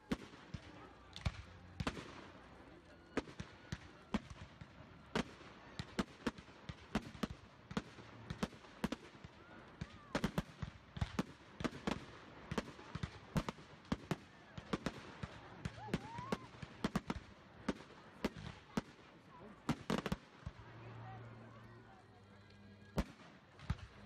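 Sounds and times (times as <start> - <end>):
fireworks popping and cracking: 0.0 - 20.7, 23.0 - 24.0.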